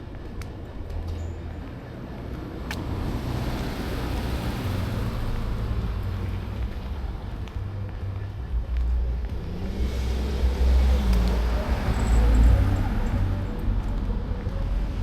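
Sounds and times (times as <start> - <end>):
car passing: 2.8 - 15.0.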